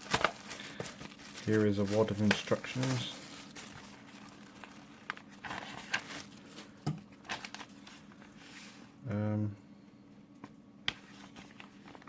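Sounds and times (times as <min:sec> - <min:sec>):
paper rustling and crinkling: 0:00.0 - 0:08.8, 0:10.9 - 0:12.0.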